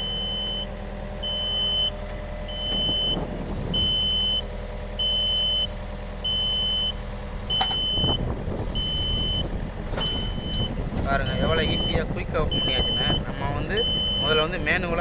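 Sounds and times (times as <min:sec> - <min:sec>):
diesel engine running: 0:00.0 - 0:15.0
hydraulics working: 0:00.0 - 0:15.0
high warning beeps: 0:00.1 - 0:03.2, 0:03.8 - 0:08.2, 0:08.8 - 0:14.7.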